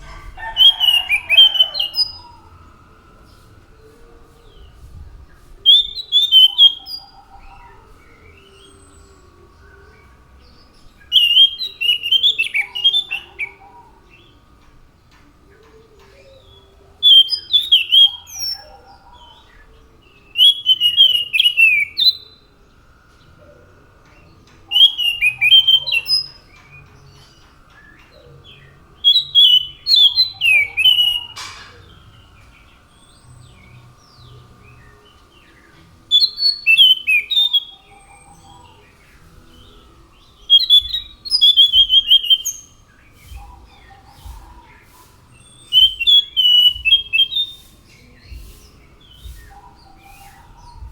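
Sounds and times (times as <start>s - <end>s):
thrush singing whistled notes: 0.0s - 50.9s.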